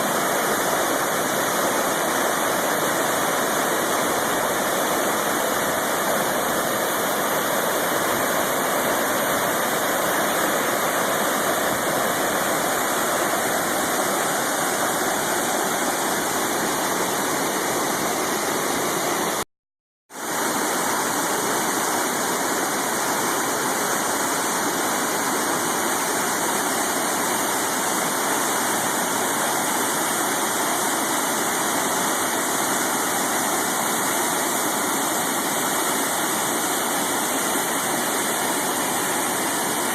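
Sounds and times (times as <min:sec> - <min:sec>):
river whitewater rushing: 0:00.0 - 0:19.4, 0:20.2 - 0:39.9.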